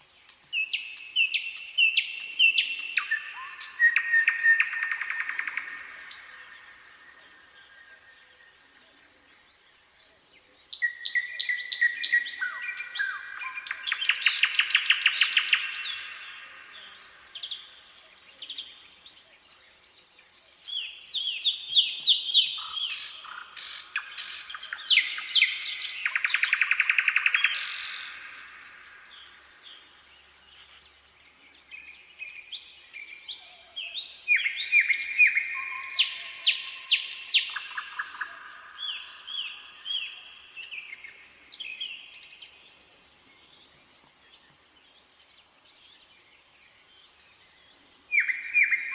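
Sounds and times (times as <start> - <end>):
nightingale singing: 0.0 - 48.9.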